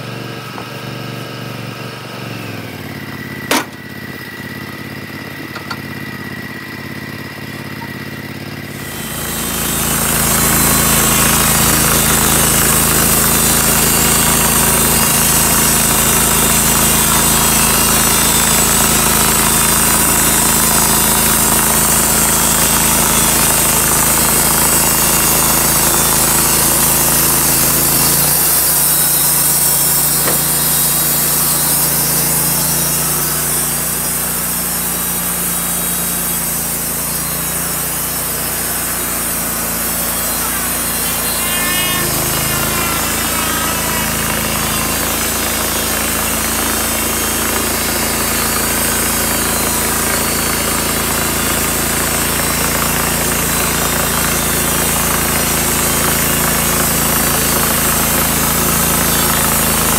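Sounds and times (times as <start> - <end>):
sawmill engine running: 0.0 - 59.9
band blade sawing wood: 8.7 - 59.9.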